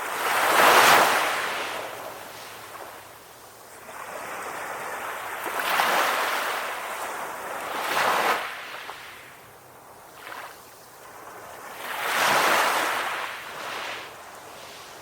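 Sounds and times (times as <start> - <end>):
ocean waves breaking on shore: 0.0 - 15.0.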